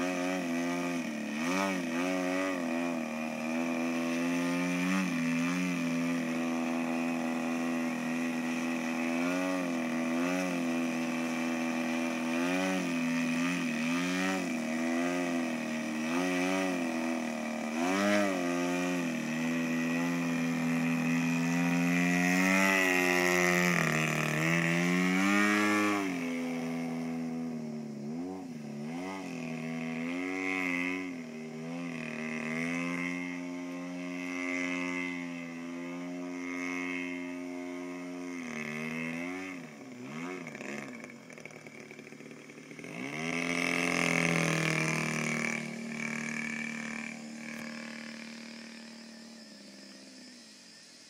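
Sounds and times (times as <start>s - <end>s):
model plane engine in flight: 0.0s - 51.0s.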